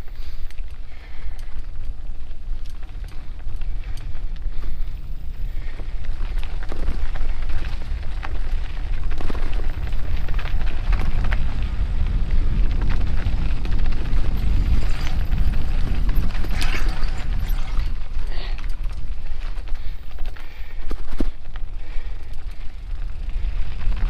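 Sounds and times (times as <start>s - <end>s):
bike rattles and clicks: 0.0s - 24.0s
wind rumble on microphone: 0.0s - 24.0s.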